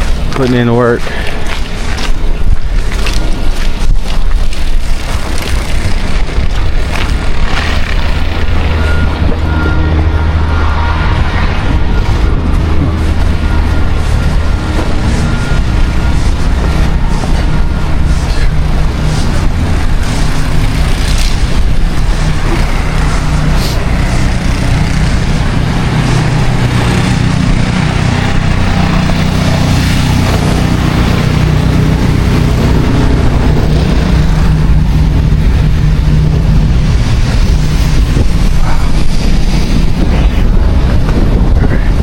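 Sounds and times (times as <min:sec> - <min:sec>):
engine running: 0:00.0 - 0:42.0
street traffic: 0:00.0 - 0:42.0.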